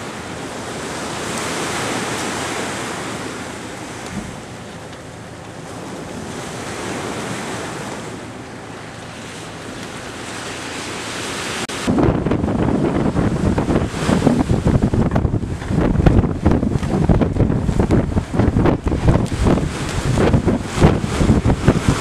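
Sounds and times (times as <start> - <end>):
choppy sea wash: 0.0 - 22.0
wind on microphone: 0.0 - 22.0.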